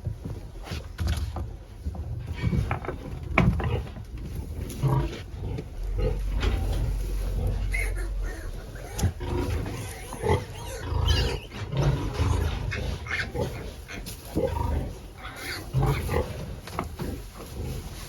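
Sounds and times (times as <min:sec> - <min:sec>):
pigs grunting: 0:02.0 - 0:18.0.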